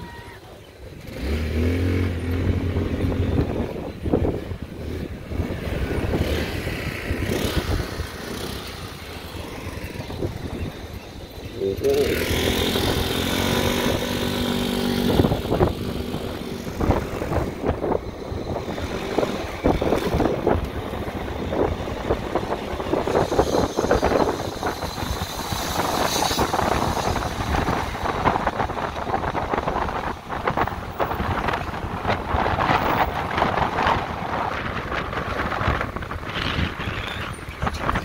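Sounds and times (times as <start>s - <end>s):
tyre and road noise: 0.0s - 38.0s
wind buffeting microphone: 2.0s - 11.6s, 12.3s - 38.0s.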